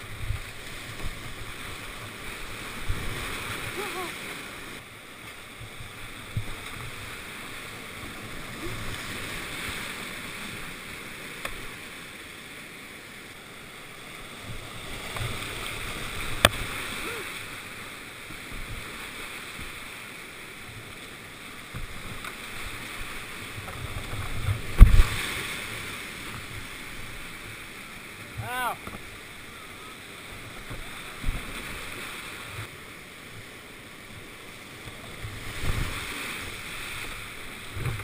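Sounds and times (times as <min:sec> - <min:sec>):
rushing whitewater: 0:00.0 - 0:38.0.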